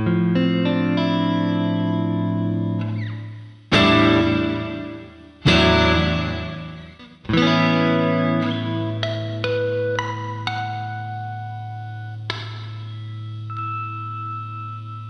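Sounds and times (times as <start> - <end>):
electric guitar chords with reverb: 0.0 - 15.0.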